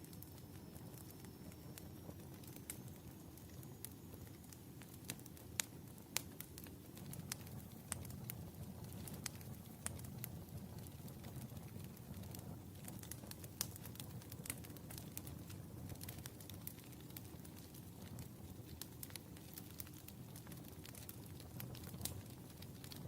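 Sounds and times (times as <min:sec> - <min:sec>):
fire crackling and popping: 0:00.0 - 0:23.0
fire rumbling: 0:00.0 - 0:23.0.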